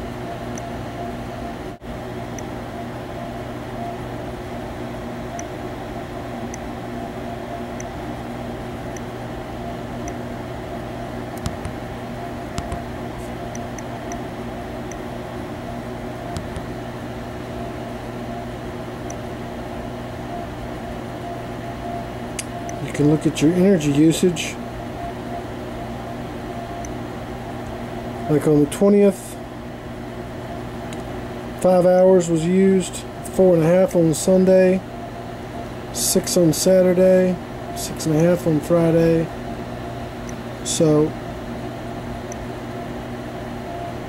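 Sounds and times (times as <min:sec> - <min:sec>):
mechanical hum with low buzz: 0:00.0 - 0:44.0.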